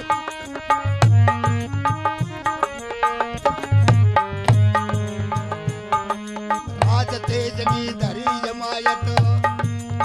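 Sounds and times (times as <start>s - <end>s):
quick instrumental melody: 0.0s - 10.0s
hand drum beat: 1.0s - 10.0s.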